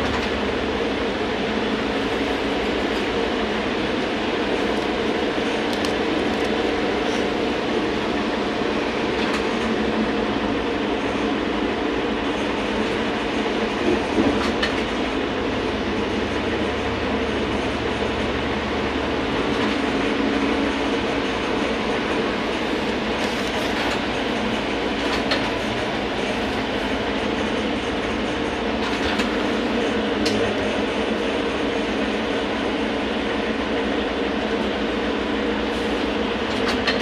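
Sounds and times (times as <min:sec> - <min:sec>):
trolleybus electric hum: 0:00.0 - 0:37.0.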